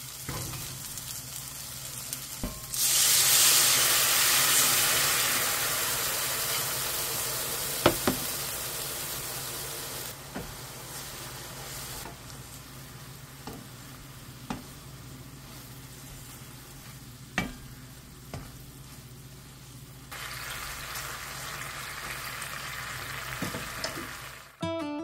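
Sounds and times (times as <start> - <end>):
chicken sizzling in a pan: 0.0 - 24.6.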